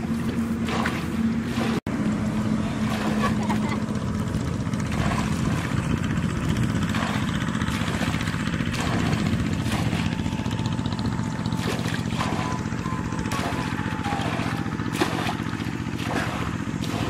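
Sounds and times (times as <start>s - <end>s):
muddy water splashing: 0.0s - 17.0s
small engine running: 0.0s - 17.0s.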